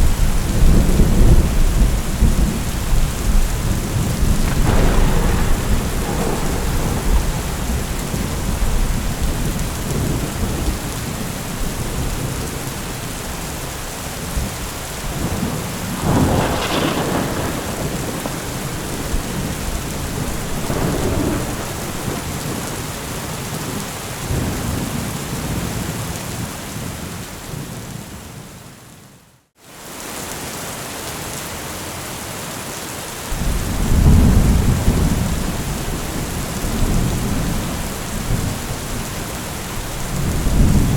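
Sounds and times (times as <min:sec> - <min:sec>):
thunder rumbling: 0:00.0 - 0:25.7, 0:33.3 - 0:40.9
heavy rain: 0:00.0 - 0:40.9.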